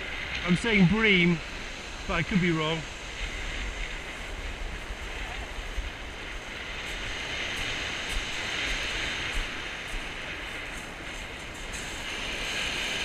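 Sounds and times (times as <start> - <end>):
surf breaking on shingle beach: 0.0 - 13.0
wind buffeting microphone: 0.0 - 13.0.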